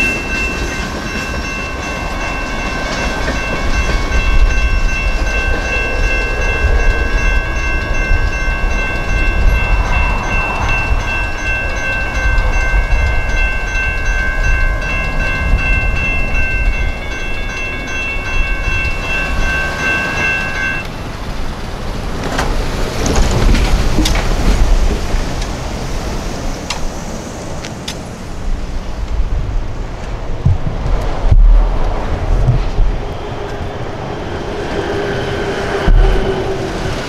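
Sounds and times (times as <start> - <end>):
crossing warning bells ringing: 0.0 - 27.0, 33.0 - 37.0.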